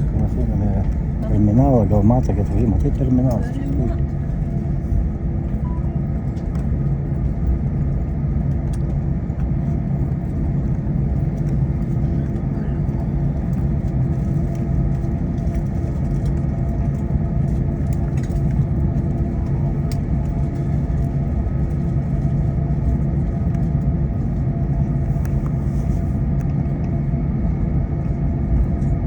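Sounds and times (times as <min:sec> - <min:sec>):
cabin air system hum: 0:00.0 - 0:29.0
jet engines idling: 0:00.0 - 0:29.0.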